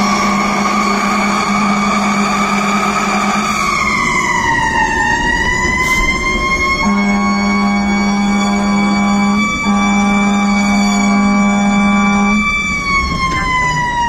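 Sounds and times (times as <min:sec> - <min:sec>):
fire engine siren wailing: 0:00.0 - 0:14.0.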